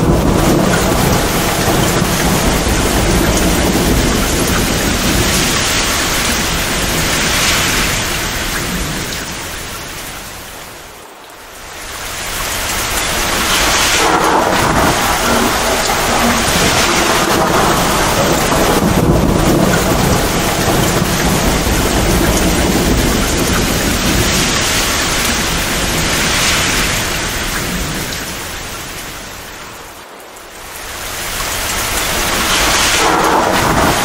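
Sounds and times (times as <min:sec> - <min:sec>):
low rumble of thunder: 0:00.0 - 0:09.9, 0:12.1 - 0:29.1, 0:31.2 - 0:34.0
heavy rain pouring: 0:00.0 - 0:34.0.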